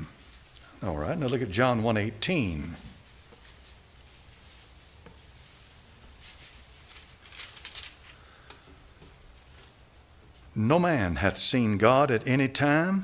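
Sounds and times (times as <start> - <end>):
paper rustling: 0.0 - 10.6.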